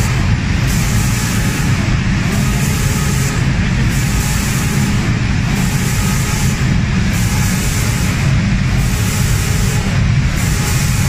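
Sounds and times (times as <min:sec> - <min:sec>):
hiss of spraying: 0:00.0 - 0:11.0
low machine hum: 0:00.0 - 0:11.0.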